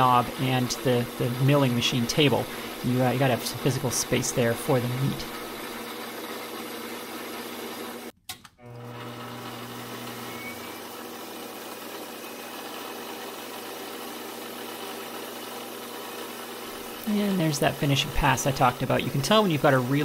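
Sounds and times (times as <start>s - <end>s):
metal lathe motor hum: 0.0s - 8.1s, 8.7s - 20.0s.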